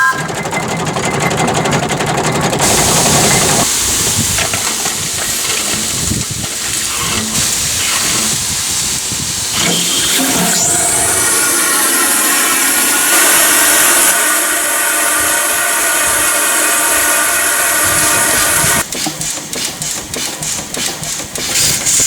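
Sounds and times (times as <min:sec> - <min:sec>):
steam engine running: 0:00.0 - 0:22.0
steam hissing: 0:02.4 - 0:22.0.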